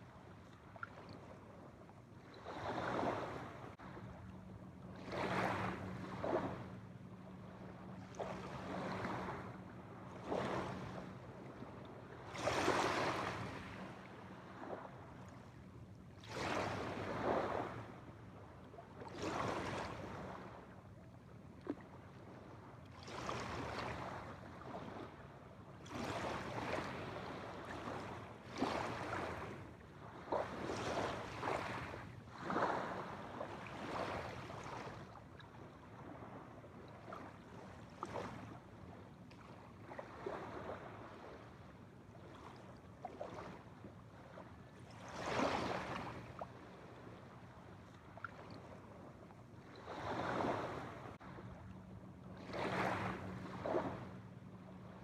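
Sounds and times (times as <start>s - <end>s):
small waves breaking on shore: 0.0s - 55.0s.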